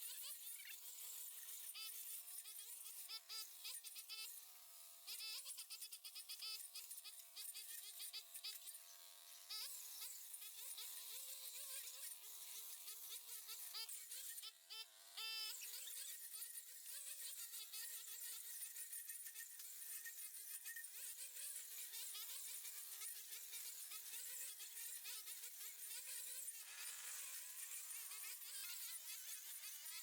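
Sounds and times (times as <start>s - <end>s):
small high-revving engine buzzing: 0.0s - 30.0s.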